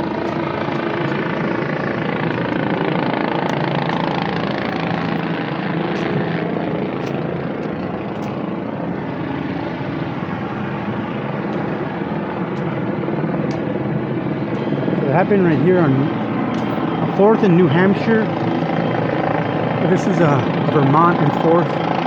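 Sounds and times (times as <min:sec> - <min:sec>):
helicopter droning overhead: 0:00.0 - 0:22.0.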